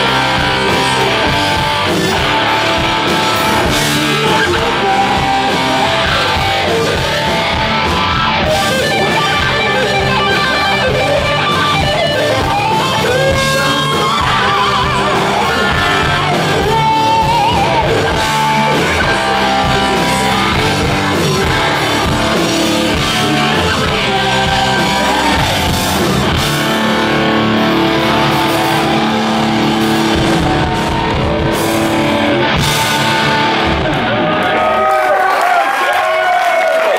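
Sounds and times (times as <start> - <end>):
live heavy rock band playing: 0.0 - 35.6.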